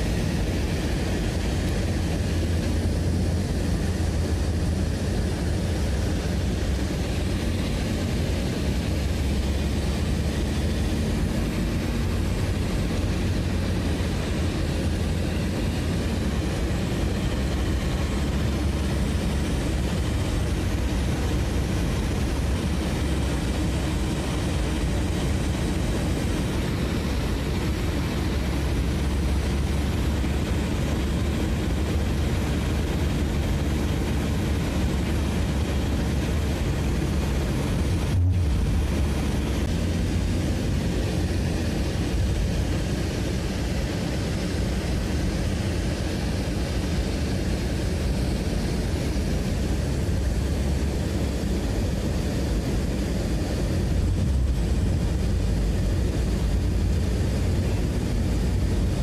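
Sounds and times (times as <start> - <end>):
moving vehicle rumble: 0.0 - 59.0.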